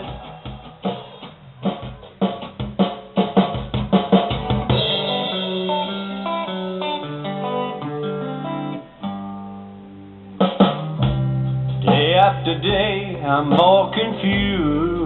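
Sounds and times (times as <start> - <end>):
drum kit beat: 0.0 - 8.2, 10.4 - 15.0
guitar melodic line: 0.0 - 15.0.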